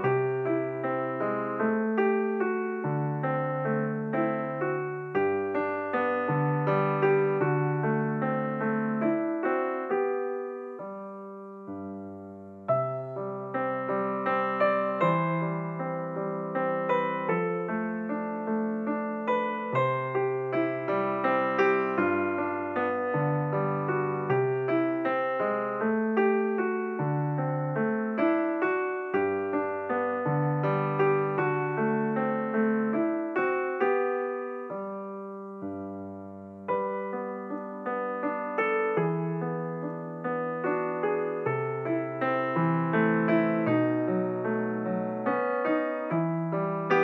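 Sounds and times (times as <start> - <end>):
slow solo piano music: 0.0 - 47.0.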